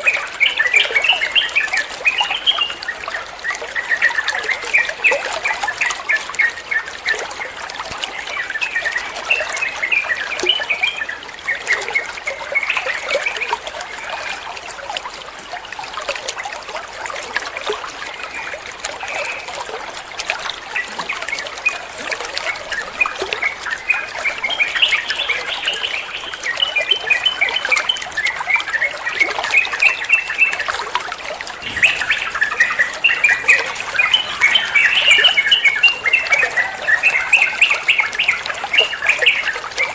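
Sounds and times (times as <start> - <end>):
bird singing bubbly chirps: 0.0 - 14.4, 20.8 - 39.9.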